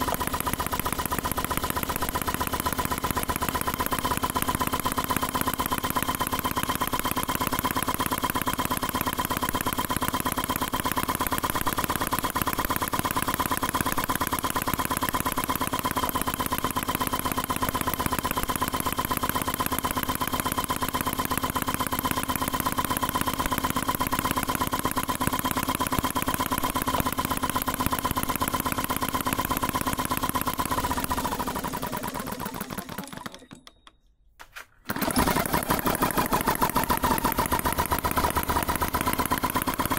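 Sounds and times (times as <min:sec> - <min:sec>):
model petrol engine running: 0:00.0 - 0:33.9, 0:34.9 - 0:39.9.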